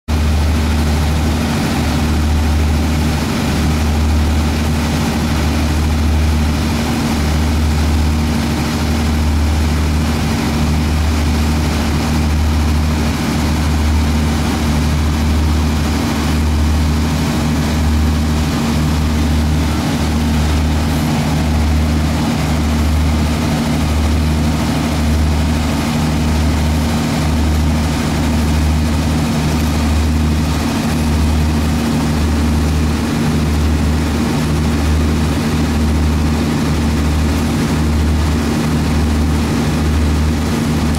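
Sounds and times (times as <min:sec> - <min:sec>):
boat engine droning: 0:00.1 - 0:40.9.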